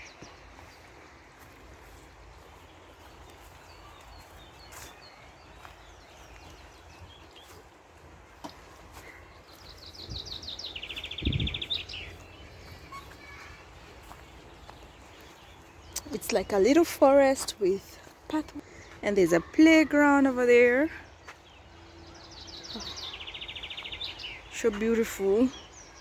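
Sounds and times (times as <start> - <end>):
soft bird chirps: 0.0 - 7.8, 8.4 - 19.8, 20.7 - 26.0
songbird trill: 0.0 - 7.8, 8.4 - 26.0.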